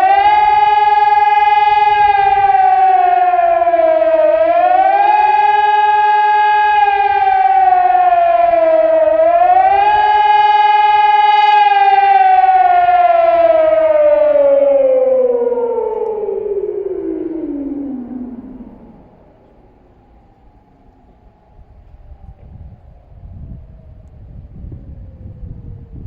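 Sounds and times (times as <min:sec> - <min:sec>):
rising and falling siren: 0:00.0 - 0:26.0.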